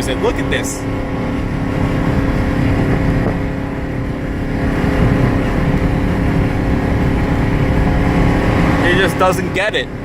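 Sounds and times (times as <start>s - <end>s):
car engine cruising: 0.0s - 10.0s
road noise: 0.0s - 10.0s.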